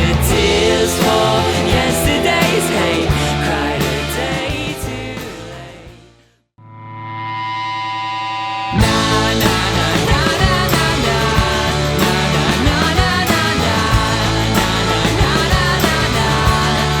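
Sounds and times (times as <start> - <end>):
rock music with drums and guitars: 0.0 - 6.1, 8.7 - 17.0.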